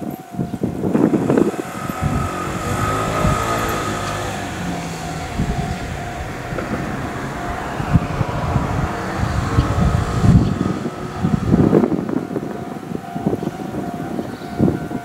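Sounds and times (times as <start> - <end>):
faint distant traffic hum: 0.0 - 15.0
wind gusting on microphone: 0.0 - 15.0.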